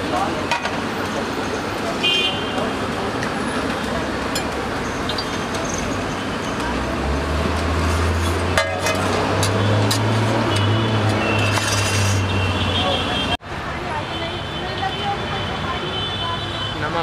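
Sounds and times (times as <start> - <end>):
roadside traffic noise: 0.0 - 17.0.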